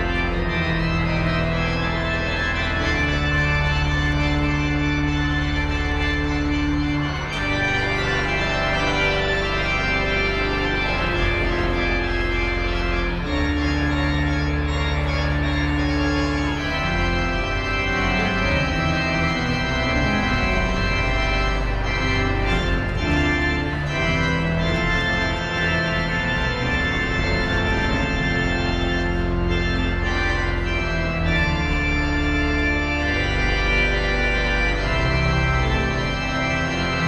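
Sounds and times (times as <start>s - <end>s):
organ playing sustained chords: 0.0s - 37.0s.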